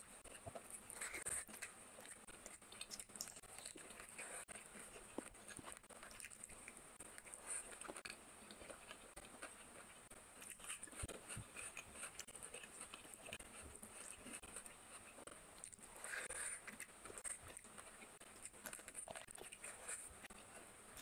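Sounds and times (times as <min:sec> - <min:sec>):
chewing and lip smacking: 0:00.0 - 0:21.0
hand squishing food: 0:00.0 - 0:21.0.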